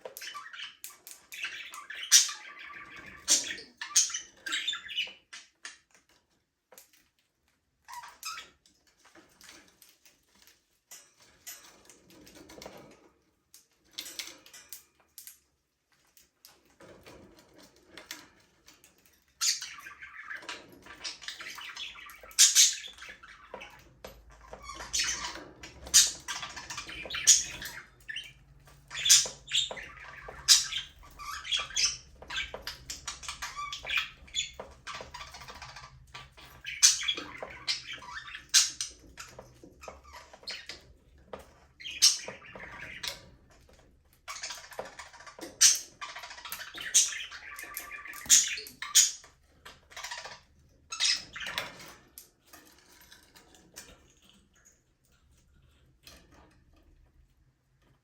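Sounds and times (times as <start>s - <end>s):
budgerigars chirping and squawking: 0.0s - 6.2s, 7.8s - 9.8s, 16.7s - 57.0s.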